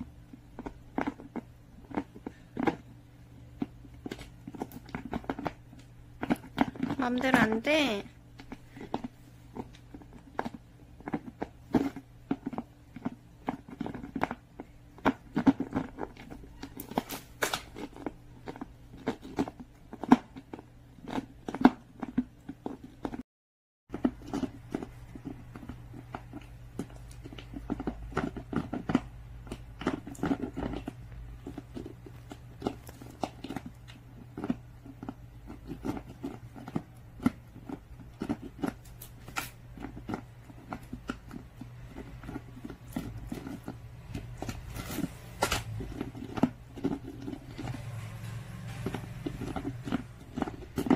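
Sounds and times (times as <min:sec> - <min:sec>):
dog chewing plastic bottle: 0:00.0 - 0:23.2, 0:23.9 - 0:50.9.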